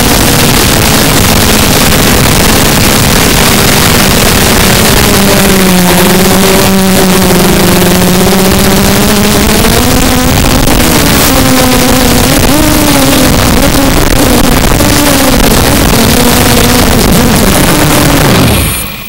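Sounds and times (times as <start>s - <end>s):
drone motors whining: 0.0s - 19.0s
loud steady noise: 0.0s - 19.0s.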